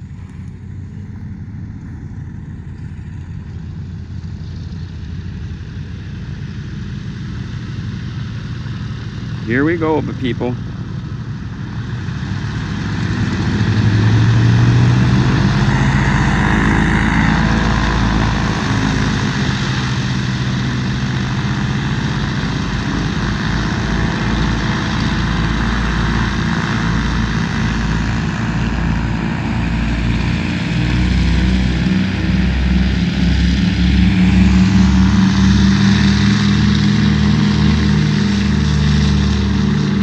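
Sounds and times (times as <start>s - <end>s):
radial engines and propellers: 0.0s - 40.0s.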